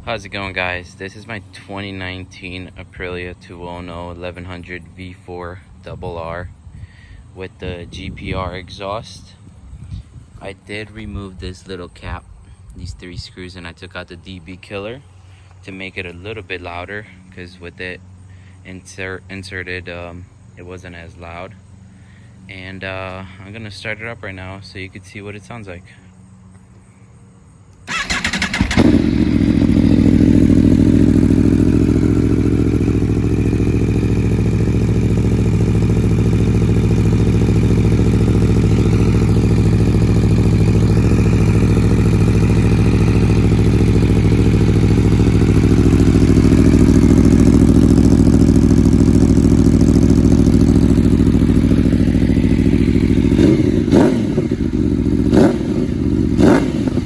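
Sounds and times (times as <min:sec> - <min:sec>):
motorcycle engine starting and idling: 0:00.0 - 0:24.8, 0:27.7 - 0:57.0.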